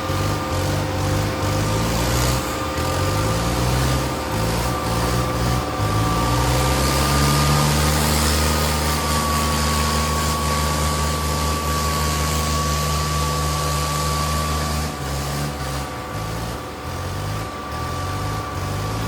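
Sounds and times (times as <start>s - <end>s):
high whine: 0.0s - 19.0s
tractor engines at high revs: 0.0s - 19.0s.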